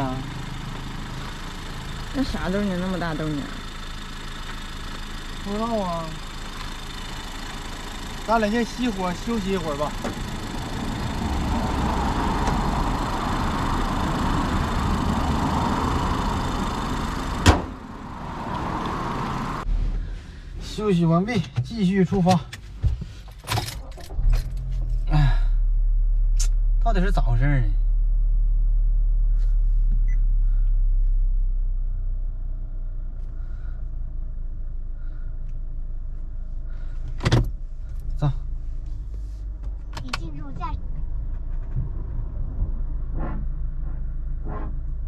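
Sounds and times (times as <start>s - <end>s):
engine idling hum: 0.0s - 45.0s.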